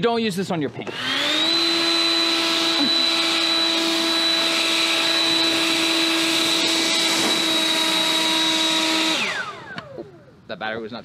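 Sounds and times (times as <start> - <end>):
electric leaf blower running: 0.8 - 10.3.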